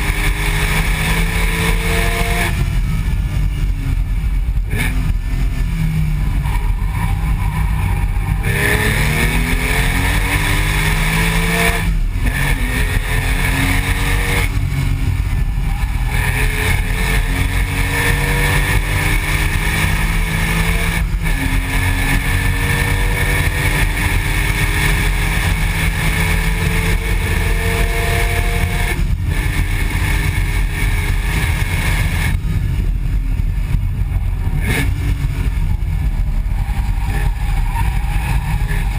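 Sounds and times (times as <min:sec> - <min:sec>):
car exhaust revving through upshifts: 0:00.0 - 0:03.2, 0:03.8 - 0:38.9.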